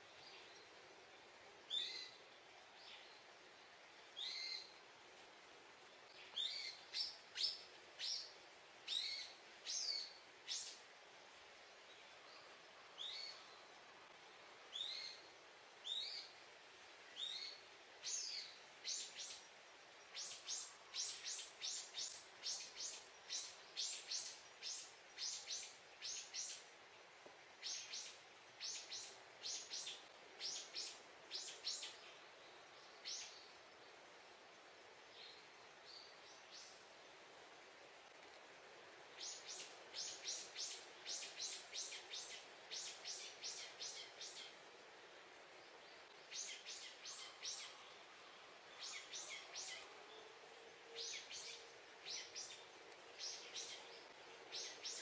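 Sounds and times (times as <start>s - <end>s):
small birds chirping: 0.0s - 10.9s, 11.7s - 16.4s, 17.0s - 26.9s, 27.5s - 38.3s, 39.0s - 55.0s
faint background hiss: 0.0s - 55.0s.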